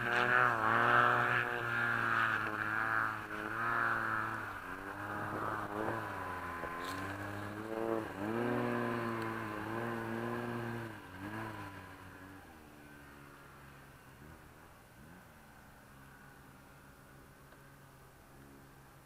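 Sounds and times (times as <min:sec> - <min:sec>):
snowmobile engine revving: 0:00.0 - 0:16.4.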